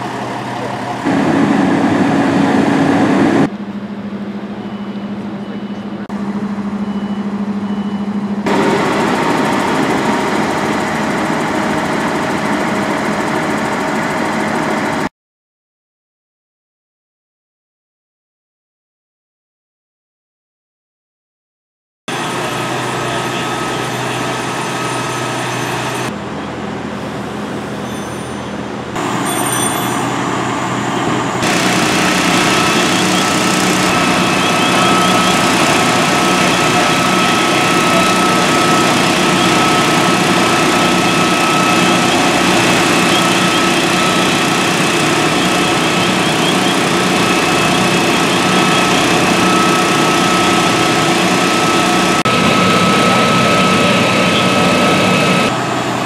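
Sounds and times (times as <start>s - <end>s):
diesel engines running pumps: 0.0s - 15.1s, 22.1s - 56.0s.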